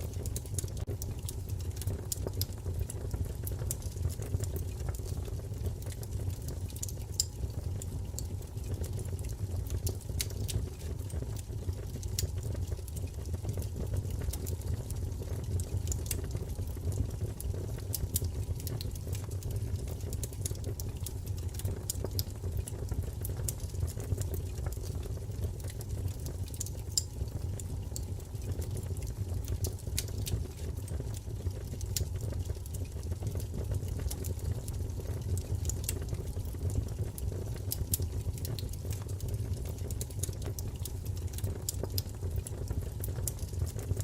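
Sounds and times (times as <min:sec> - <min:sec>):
low rumble of flame: 0:00.0 - 0:44.0
wood fire crackling and popping: 0:00.0 - 0:44.0.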